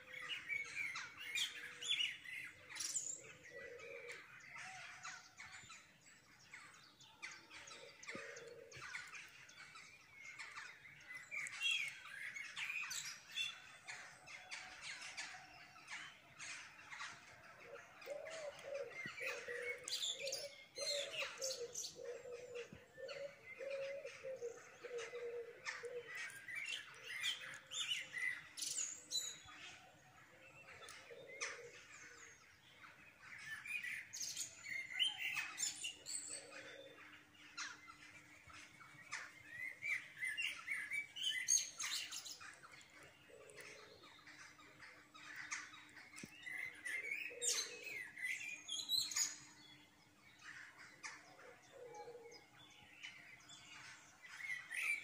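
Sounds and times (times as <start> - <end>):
songbirds twittering and chirping: 0.0 - 55.0.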